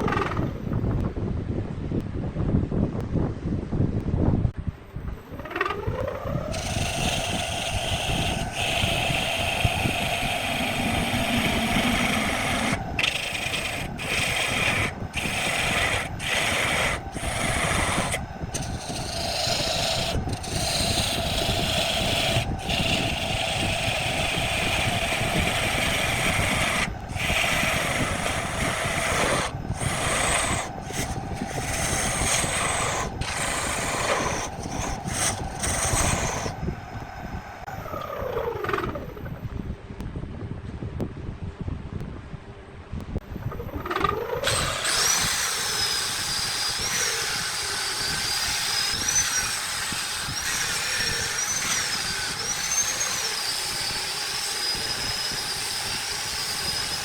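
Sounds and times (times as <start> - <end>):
turning tool scraping wood: 0.0 - 0.6, 5.3 - 38.0, 43.6 - 57.0
wood lathe hum: 0.0 - 0.6, 5.2 - 39.4, 43.5 - 57.0.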